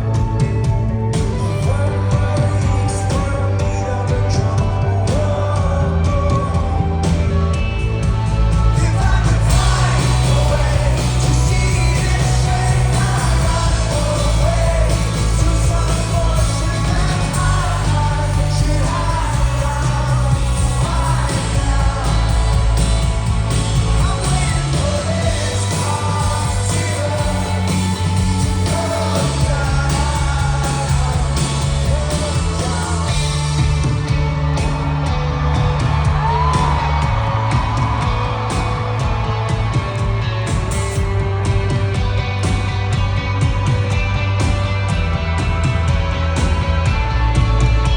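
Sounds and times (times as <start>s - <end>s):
person singing lead vocal: 0.0s - 42.5s
crowd yelling: 0.0s - 47.9s
rock band playing live: 0.0s - 47.9s.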